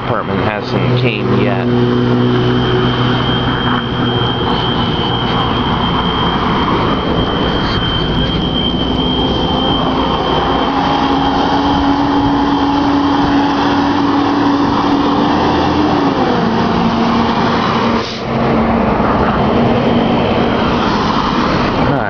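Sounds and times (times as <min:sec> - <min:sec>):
fire alarm drone: 0:00.0 - 0:22.0.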